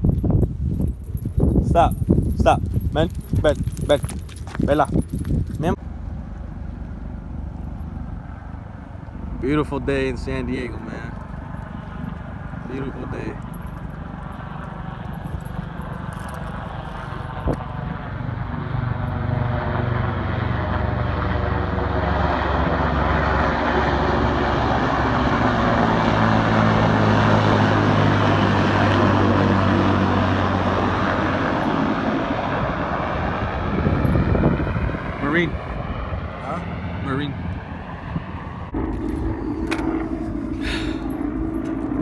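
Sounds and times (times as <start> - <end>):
aircraft engine drone overhead: 0.0 - 42.0.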